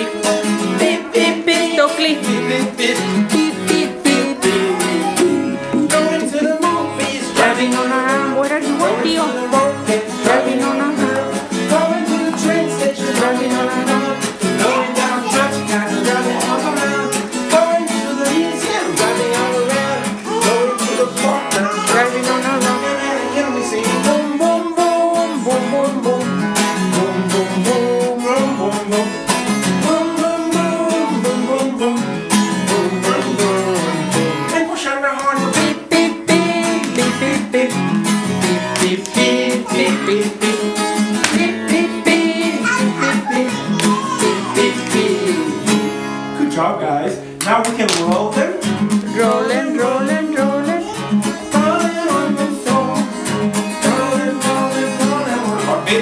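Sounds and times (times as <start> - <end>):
person singing: 0.0 - 46.0, 47.5 - 56.0
strummed acoustic guitar: 0.0 - 56.0.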